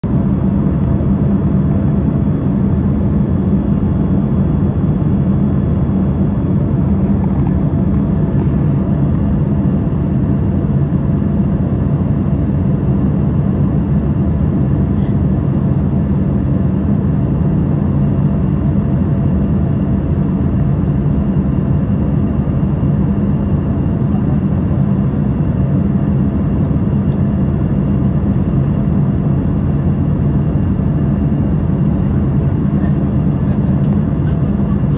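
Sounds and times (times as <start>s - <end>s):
aircraft engine drone: 0.0s - 34.9s.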